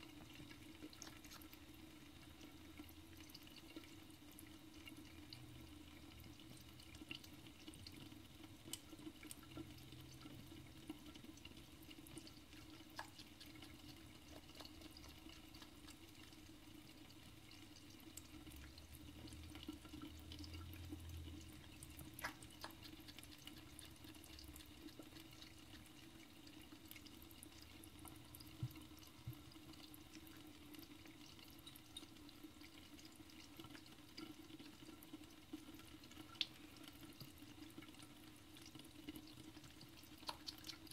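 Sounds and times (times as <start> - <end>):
faucet water trickling into sink: 0.0 - 40.9
low steady hum: 0.0 - 40.9
small drips and ticks: 0.0 - 40.9.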